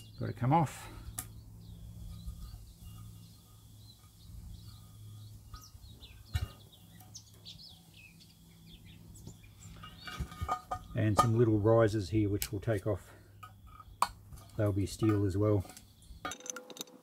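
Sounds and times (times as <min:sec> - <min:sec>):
faint birds chirping: 0:00.0 - 0:16.5
low steady hum: 0:00.0 - 0:16.7.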